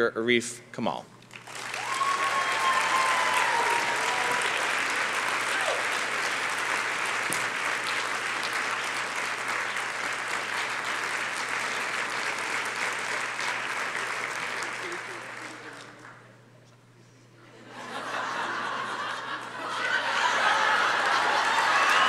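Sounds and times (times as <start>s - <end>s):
large audience applauding: 1.3s - 16.2s, 19.0s - 22.0s.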